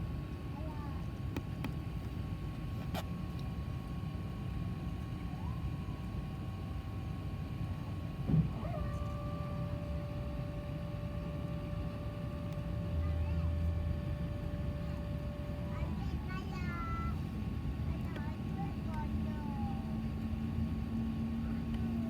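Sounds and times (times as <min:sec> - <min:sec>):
aircraft cabin rumble and whine: 0:00.0 - 0:22.0
high engine whine tones: 0:02.5 - 0:22.0.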